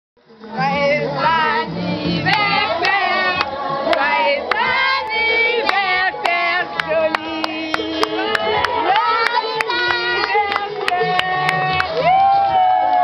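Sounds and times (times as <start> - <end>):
group of people singing: 0.3 - 12.1.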